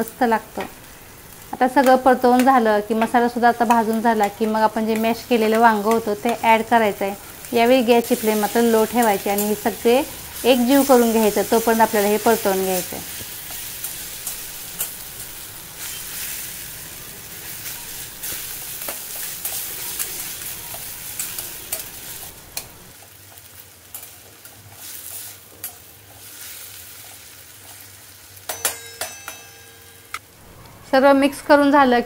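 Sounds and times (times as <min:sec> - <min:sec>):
food sizzling in oil: 0:00.0 - 0:28.9.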